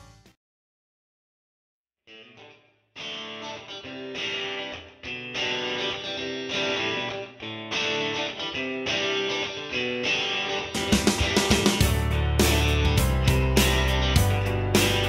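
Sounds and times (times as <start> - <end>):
strummed guitar chords: 0.0 - 0.4, 2.1 - 15.0.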